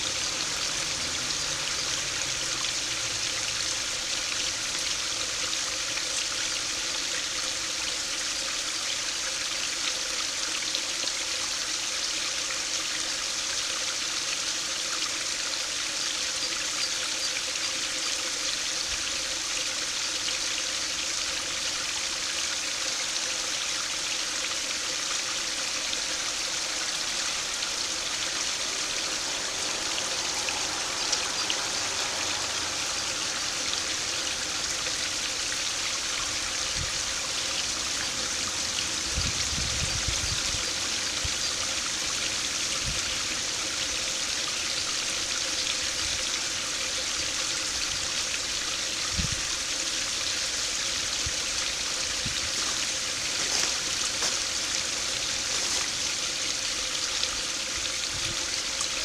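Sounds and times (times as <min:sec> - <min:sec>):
stream splashing over weir: 0:00.0 - 0:08.4, 0:19.0 - 0:59.0.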